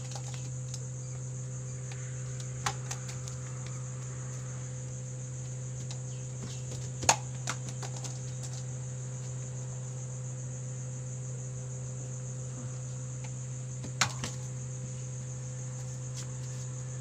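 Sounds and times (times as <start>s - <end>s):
crickets chirping: 0.0s - 17.0s
low steady hum: 0.0s - 17.0s.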